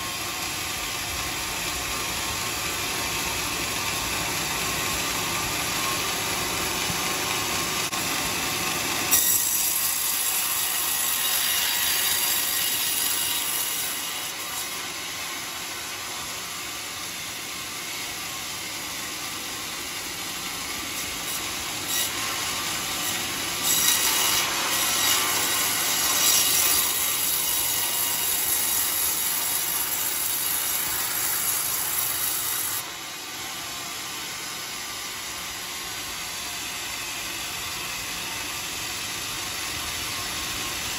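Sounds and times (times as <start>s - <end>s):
saw blade cutting log: 0.0s - 40.9s
sawmill machine running: 0.0s - 40.9s.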